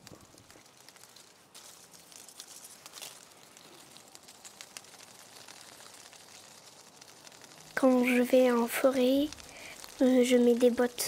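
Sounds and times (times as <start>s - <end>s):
leaves and twigs rustling: 0.0s - 11.0s.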